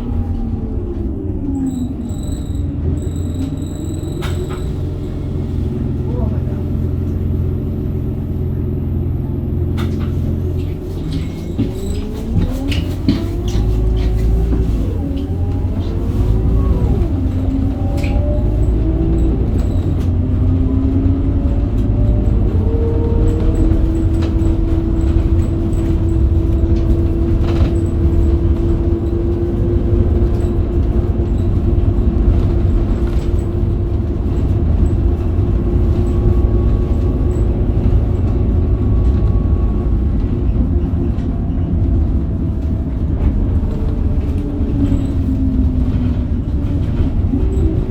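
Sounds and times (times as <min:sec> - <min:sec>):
bus diesel engine shifting gears: 0:00.0 - 0:47.9.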